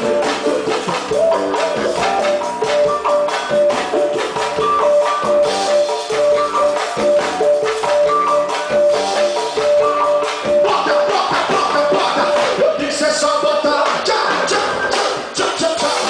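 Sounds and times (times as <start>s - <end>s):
music with drum kit and shaker: 0.0s - 16.0s.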